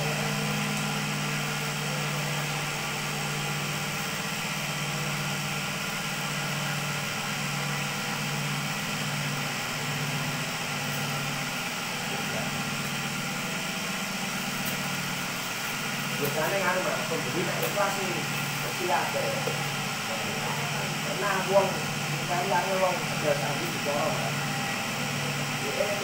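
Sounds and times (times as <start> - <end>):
cotton candy machine motor hum: 0.0 - 26.0.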